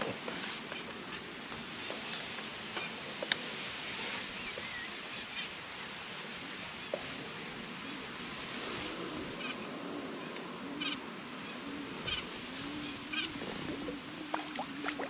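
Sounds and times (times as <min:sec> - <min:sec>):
rustling reeds: 0:00.0 - 0:15.0
wind: 0:00.0 - 0:15.0.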